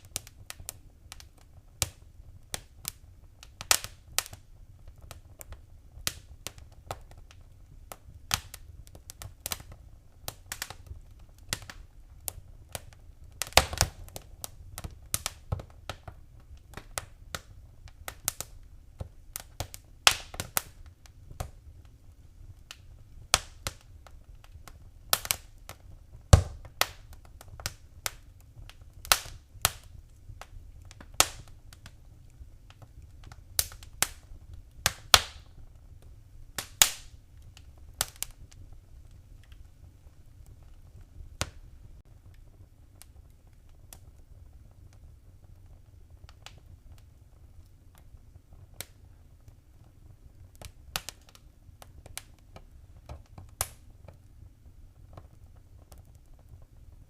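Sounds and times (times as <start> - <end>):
fire pops and snaps: 0.0 - 57.0
low rumble of flame: 0.0 - 57.0.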